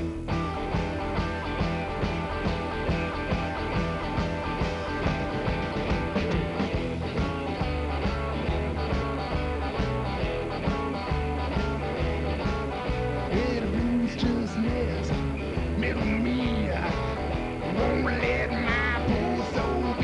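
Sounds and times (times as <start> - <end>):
plucked double bass: 0.0 - 20.0
rock and roll band playing: 0.0 - 20.0.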